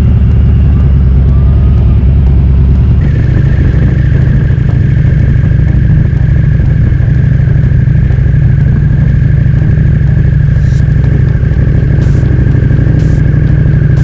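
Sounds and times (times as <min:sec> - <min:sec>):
motorcycle engine running: 0:00.0 - 0:14.0
thin steady high whine: 0:00.0 - 0:14.0
wind rumble on microphone: 0:00.0 - 0:14.0.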